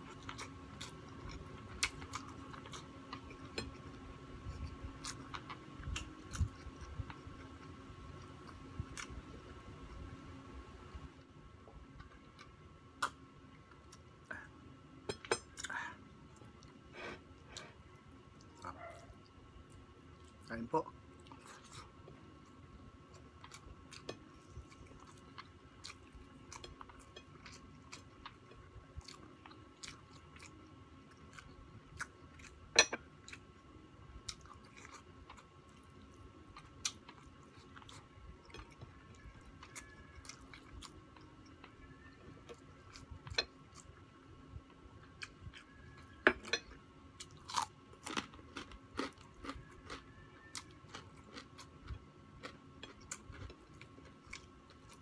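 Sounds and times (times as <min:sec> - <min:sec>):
chewing and crunching food: 0:00.0 - 0:10.2, 0:15.1 - 0:55.0.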